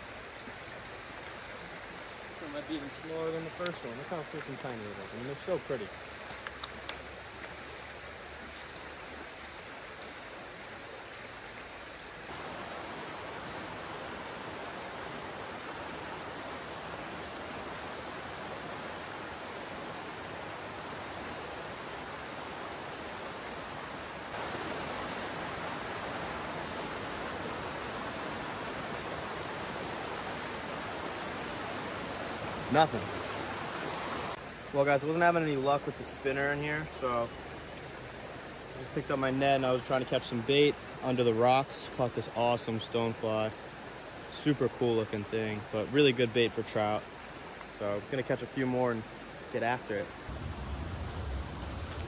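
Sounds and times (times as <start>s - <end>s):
fast-flowing stream rushing: 0.0s - 52.0s.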